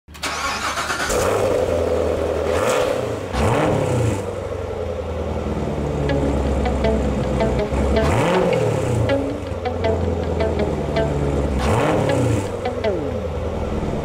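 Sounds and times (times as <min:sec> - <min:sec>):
car engine running: 0:01.1 - 0:14.0.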